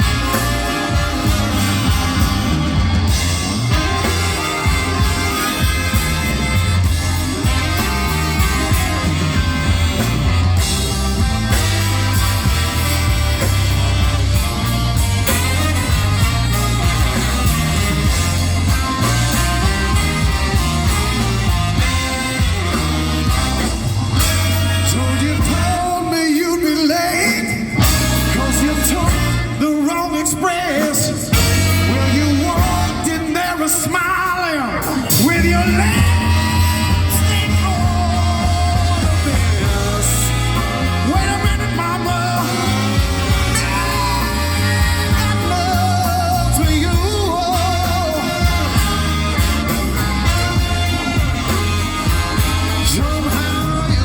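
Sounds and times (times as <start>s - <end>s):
bass and drum beat: 0.0s - 54.0s
horns playing: 0.0s - 54.0s.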